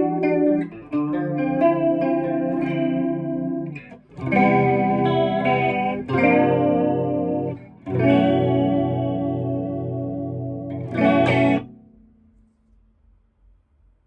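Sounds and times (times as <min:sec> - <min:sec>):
electric guitar chords with chorus: 0:00.0 - 0:12.2.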